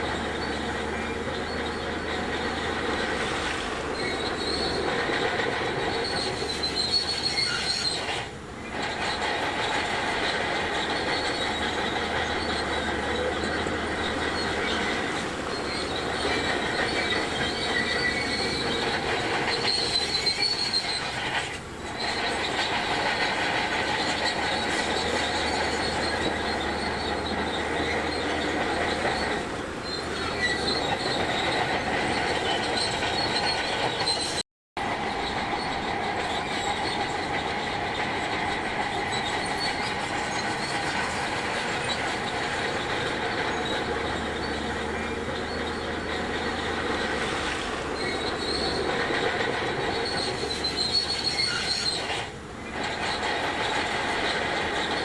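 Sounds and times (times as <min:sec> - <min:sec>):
bulldozer diesel engine running: 0:00.0 - 0:55.0
steel tracks squealing and clattering: 0:00.0 - 0:55.0.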